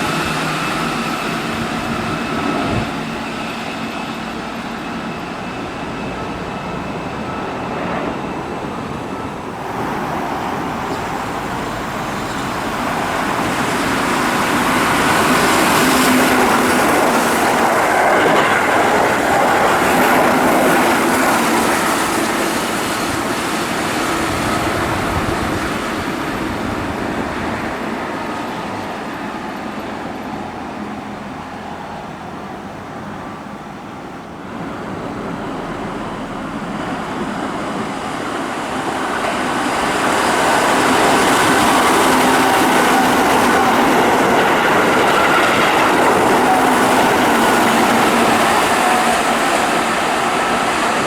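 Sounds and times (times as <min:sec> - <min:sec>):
electric train passing: 0:00.0 - 0:51.0.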